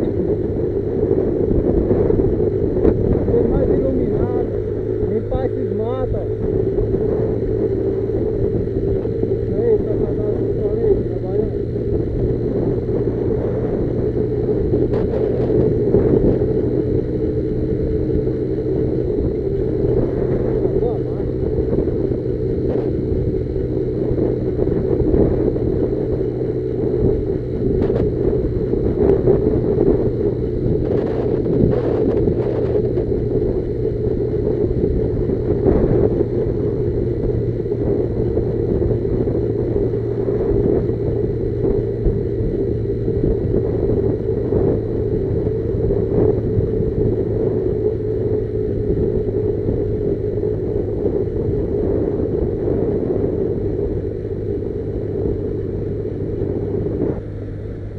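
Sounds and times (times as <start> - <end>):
motorcycle engine running: 0.0 - 57.9
wind and road noise rumble: 0.0 - 57.9.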